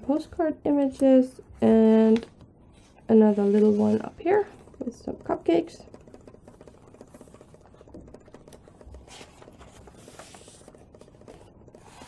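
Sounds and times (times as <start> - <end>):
paper pages turning: 1.6 - 12.0.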